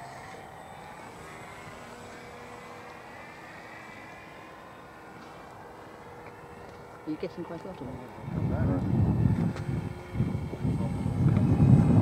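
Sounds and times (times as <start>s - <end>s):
model aircraft motor droning: 0.0s - 12.0s.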